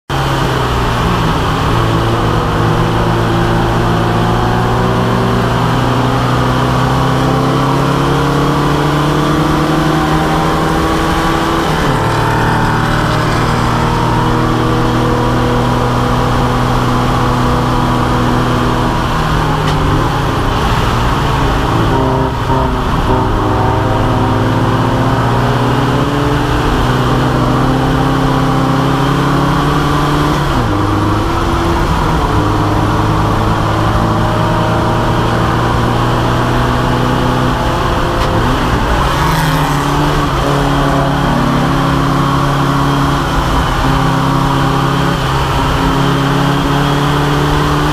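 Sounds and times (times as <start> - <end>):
car engine accelerating: 0.1 - 47.9.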